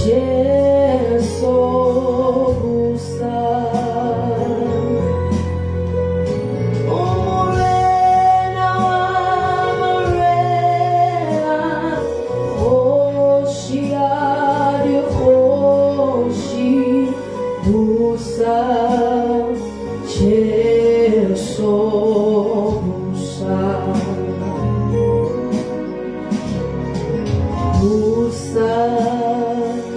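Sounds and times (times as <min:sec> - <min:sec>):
gospel music with singing voices: 0:00.0 - 0:29.9.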